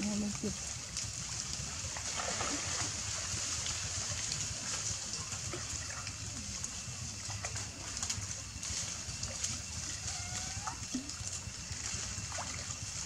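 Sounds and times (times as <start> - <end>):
steady hiss: 0.0 - 13.0
water splashing and dripping: 0.0 - 13.0.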